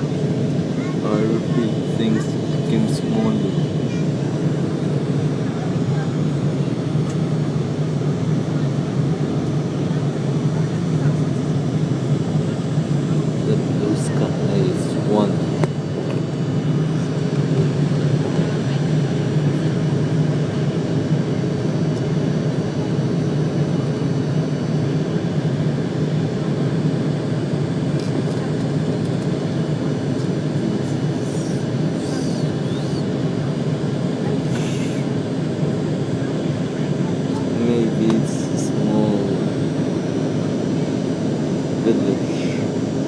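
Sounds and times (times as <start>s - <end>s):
jet engine rumble in cabin: 0.0s - 43.0s.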